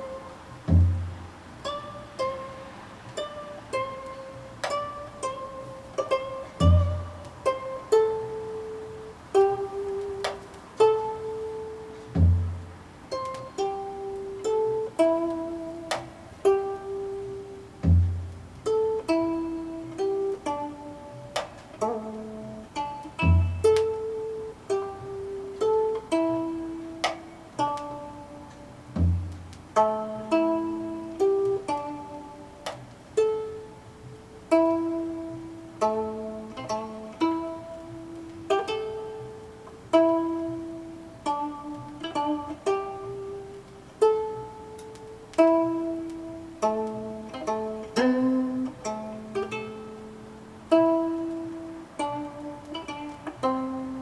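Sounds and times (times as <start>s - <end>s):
plucked zither melody: 0.0s - 54.0s.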